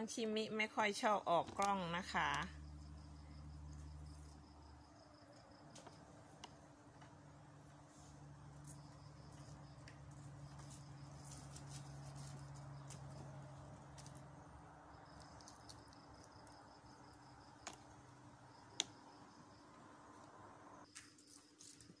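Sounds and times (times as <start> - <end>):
low steady hum: 0.0 - 20.9
high insect trill: 1.8 - 6.3, 7.6 - 22.0.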